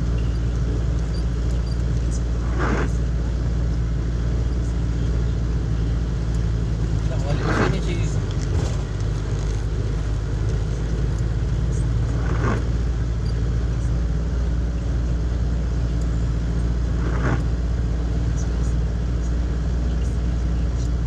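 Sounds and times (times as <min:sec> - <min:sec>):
constant road hiss: 0:00.0 - 0:21.0
engine and tyre rumble: 0:00.0 - 0:21.0.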